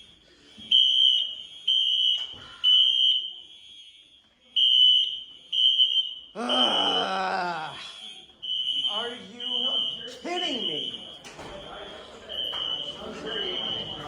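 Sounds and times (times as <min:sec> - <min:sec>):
fire alarm beeping: 0:00.0 - 0:14.0.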